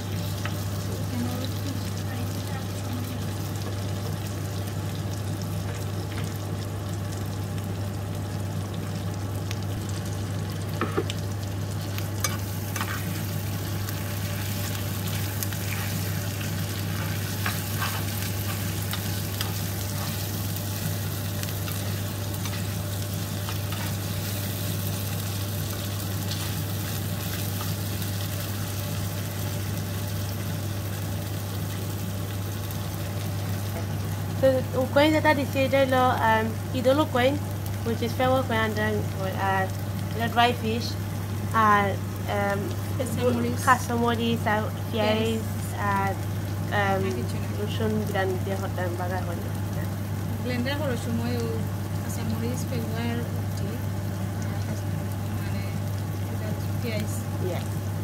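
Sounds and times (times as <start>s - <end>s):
food sizzling in frying pan: 0.0s - 58.0s
steady low hum: 0.0s - 58.0s.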